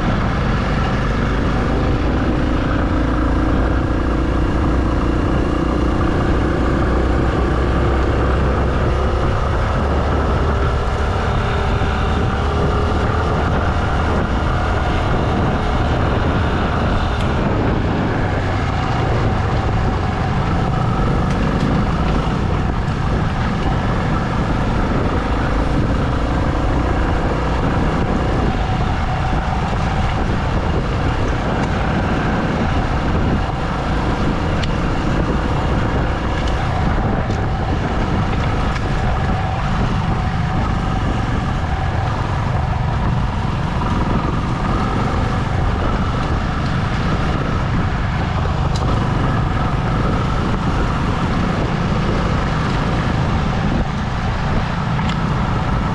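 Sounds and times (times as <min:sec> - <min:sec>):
road noise: 0:00.0 - 0:55.9
vehicle engine running: 0:00.0 - 0:55.9
wind noise: 0:00.0 - 0:55.9.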